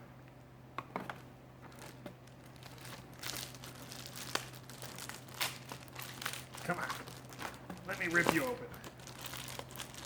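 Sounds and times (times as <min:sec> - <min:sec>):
packaging bag crinkling: 0:01.7 - 0:10.0.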